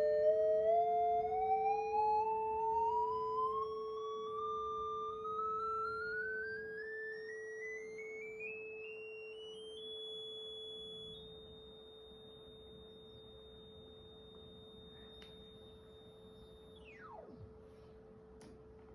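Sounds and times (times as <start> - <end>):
steady pure tone: 0.0 - 18.9.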